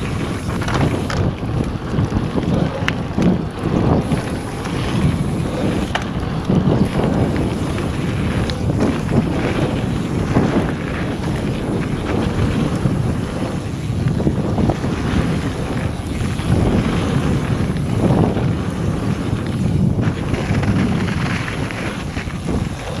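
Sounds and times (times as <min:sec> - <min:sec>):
bike clicks and rattles: 0:00.0 - 0:23.0
bike tyres rolling on trail: 0:00.0 - 0:23.0
wind buffeting microphone: 0:00.0 - 0:23.0.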